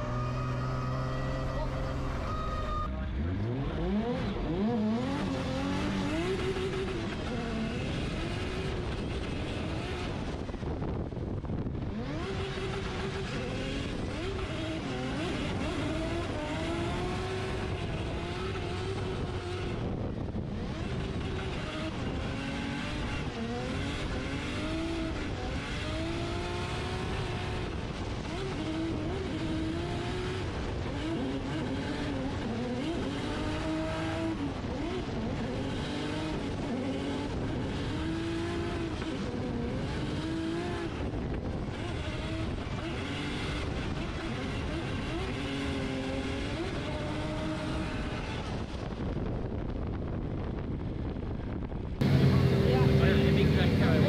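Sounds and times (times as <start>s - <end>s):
car engine revving high: 0.0s - 49.1s, 52.0s - 54.0s
tyre and road noise: 0.0s - 54.0s.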